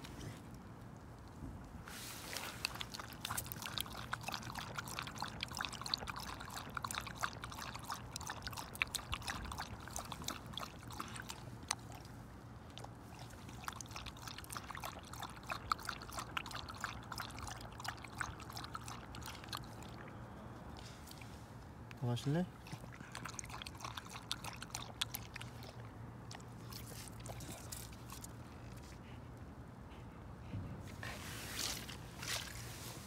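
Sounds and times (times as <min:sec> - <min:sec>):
dog lapping water: 0:01.9 - 0:21.4, 0:22.0 - 0:29.1.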